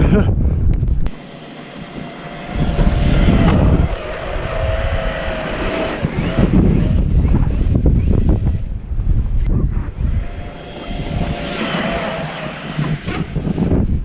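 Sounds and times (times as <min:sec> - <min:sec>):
rough rumbling noise: 0:00.0 - 0:14.0
electric motor whining: 0:01.1 - 0:14.0.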